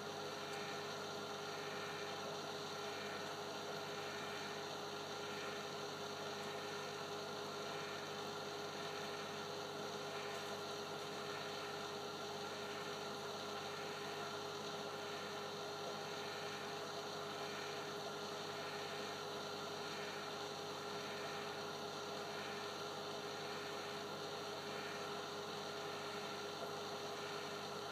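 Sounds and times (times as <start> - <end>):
aquarium equipment hum: 0.0 - 27.9.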